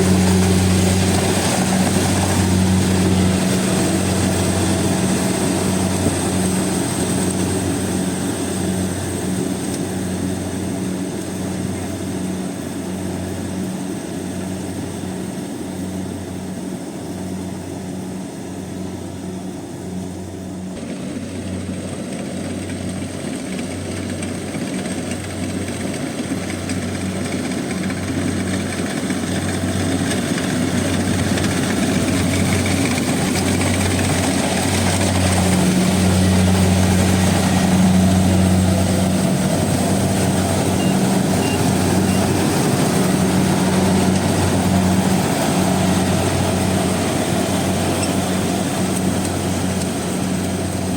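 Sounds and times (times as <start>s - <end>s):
combine harvester engine drone: 0.0s - 50.9s.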